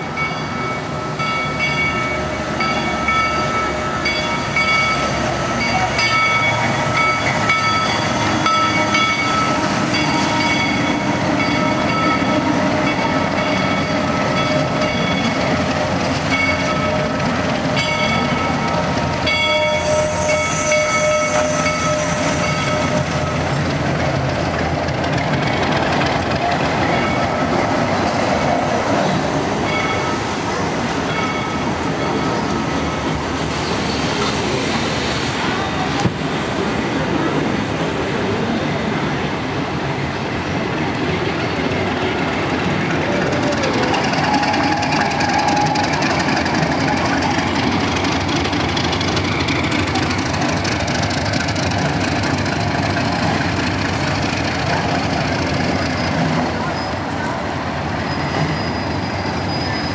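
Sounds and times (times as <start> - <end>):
train cars clattering over track: 0.0 - 59.9.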